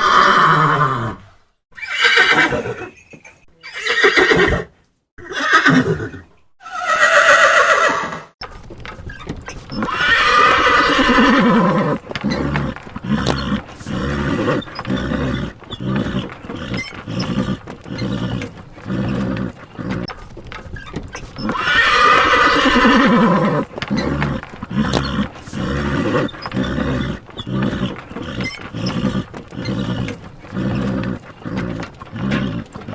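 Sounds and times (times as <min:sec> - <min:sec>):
horse whinnying: 0:00.0 - 0:08.4, 0:09.7 - 0:20.1, 0:20.7 - 0:32.9.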